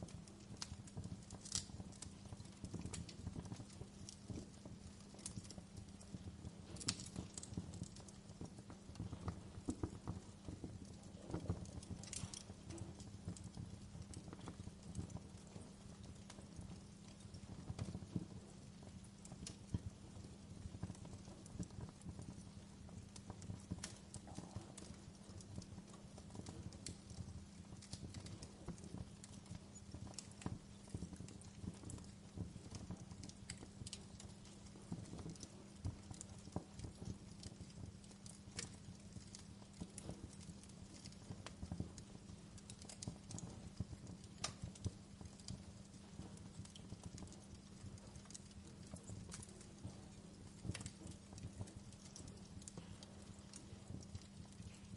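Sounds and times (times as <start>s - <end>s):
low rumble of flames: 0.0s - 54.9s
wood fire crackling: 0.0s - 54.9s.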